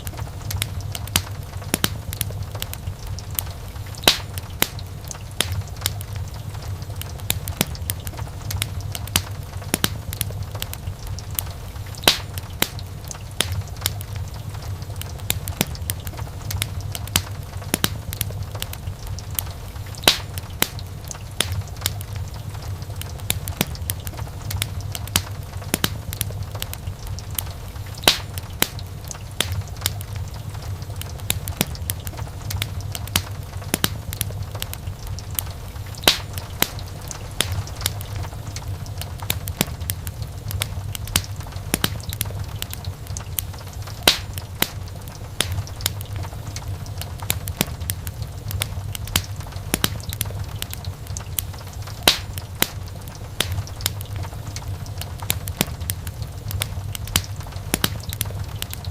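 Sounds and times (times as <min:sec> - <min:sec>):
low fire rumble: 0:00.0 - 0:58.9
wood fire crackling and popping: 0:00.0 - 0:58.9.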